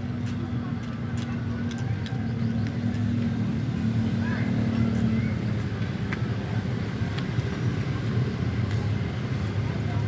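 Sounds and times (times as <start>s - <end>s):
vehicle engine hum with road noise: 0.0s - 10.0s.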